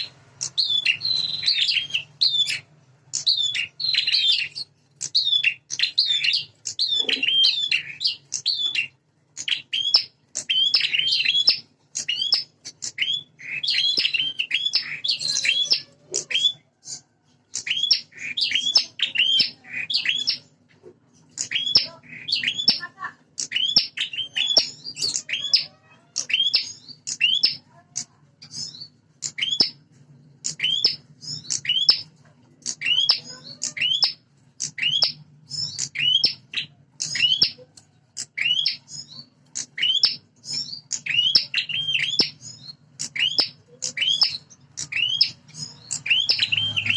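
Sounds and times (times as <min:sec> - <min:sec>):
songbirds chirping rapidly: 0:00.0 - 0:46.9.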